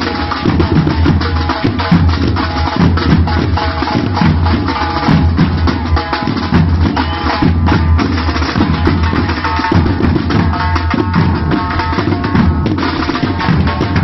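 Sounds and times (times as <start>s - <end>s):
loud drum percussion: 0.0s - 14.0s.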